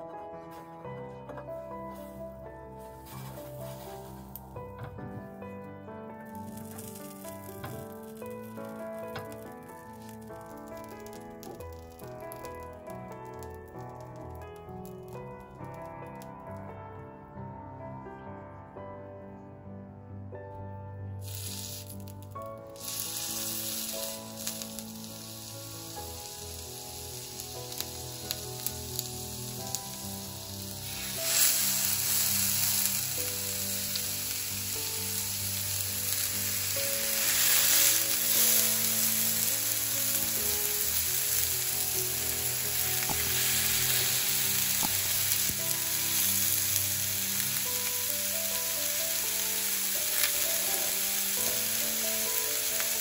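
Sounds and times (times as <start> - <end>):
soft background music: 0.0 - 53.0
meat sizzling on griddle: 3.0 - 4.6, 6.2 - 16.2, 21.2 - 53.0.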